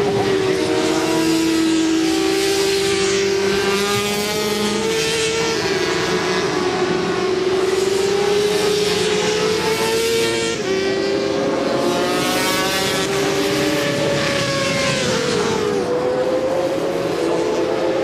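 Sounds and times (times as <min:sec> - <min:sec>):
racing motorcycles at high revs: 0:00.0 - 0:18.0.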